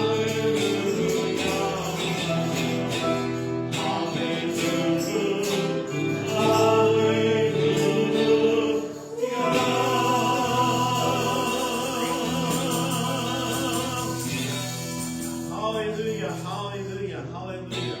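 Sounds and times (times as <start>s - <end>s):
choir singing worship song: 0.0s - 14.6s.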